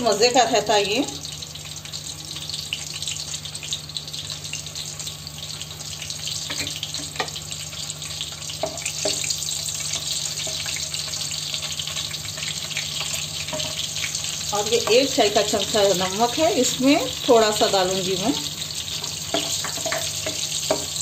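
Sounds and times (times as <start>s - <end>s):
spices sizzling in oil: 0.0s - 21.0s.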